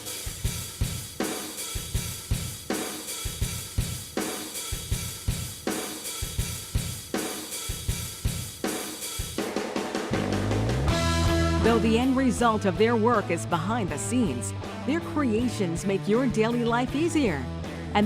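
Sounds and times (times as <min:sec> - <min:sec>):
drum kit steady beat: 0:00.0 - 0:18.0.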